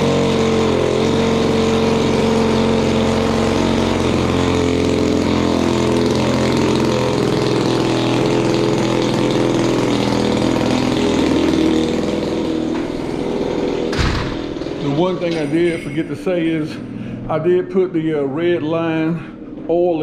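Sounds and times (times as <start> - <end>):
model airplane engine running: 0.0 - 20.0.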